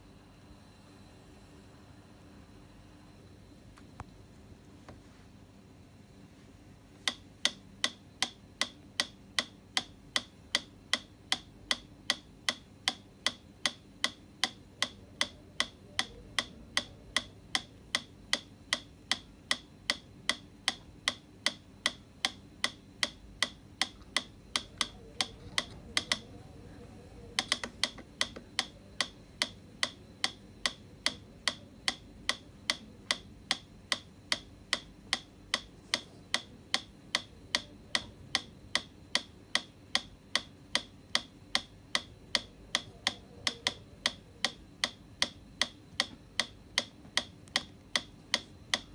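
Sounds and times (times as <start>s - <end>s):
metronome ticking: 7.0s - 48.9s.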